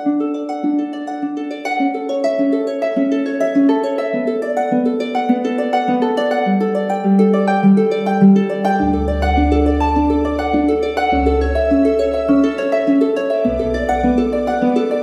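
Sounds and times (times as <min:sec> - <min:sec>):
plucked string music: 0:00.0 - 0:15.0.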